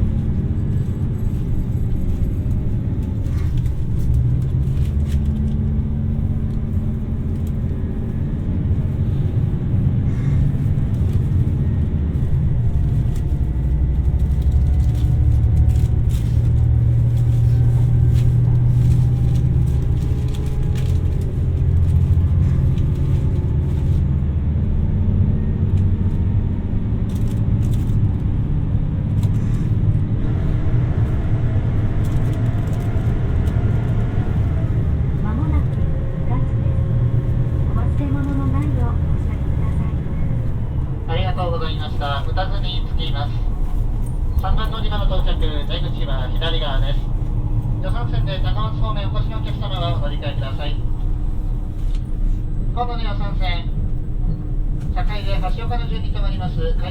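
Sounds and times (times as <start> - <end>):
train rumbling on track: 0.0 - 56.9.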